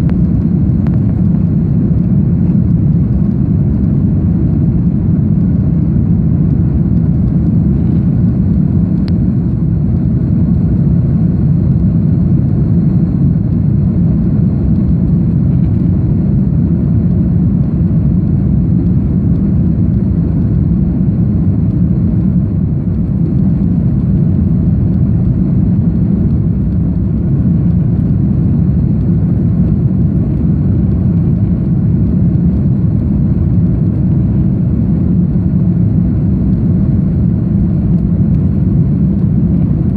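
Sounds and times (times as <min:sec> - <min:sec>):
faint high whine: 0:00.0 - 0:39.9
jet engines and airflow rumble: 0:00.0 - 0:39.9.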